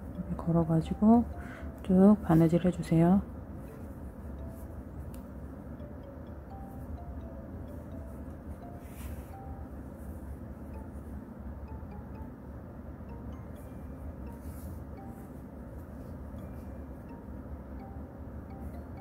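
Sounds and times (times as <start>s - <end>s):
faint soft music notes: 0.0s - 19.0s
low background hum: 0.0s - 19.0s.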